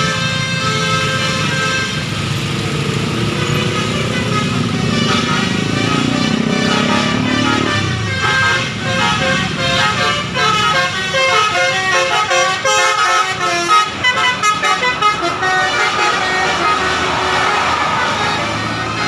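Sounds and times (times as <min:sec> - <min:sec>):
bus horn playing melody: 0:00.0 - 0:02.2, 0:03.4 - 0:19.0.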